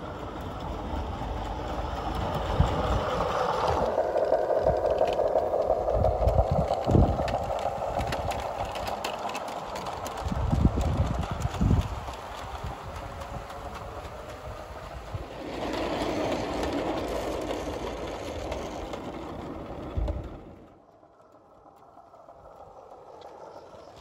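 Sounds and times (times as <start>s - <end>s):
model train rumbling on track: 0.0s - 24.0s
wheel clicks: 0.0s - 24.0s.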